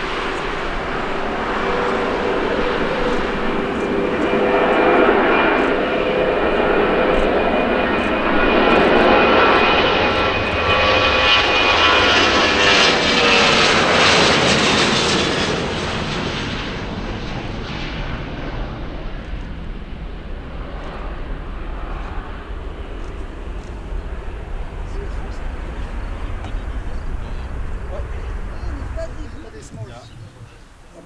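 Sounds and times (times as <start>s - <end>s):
airliner engines whining: 0.0s - 31.0s.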